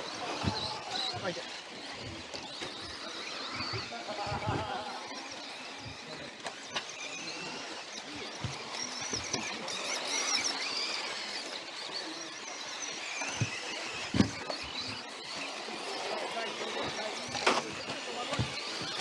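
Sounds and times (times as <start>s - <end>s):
electric motor and gear whine: 0.0s - 19.0s.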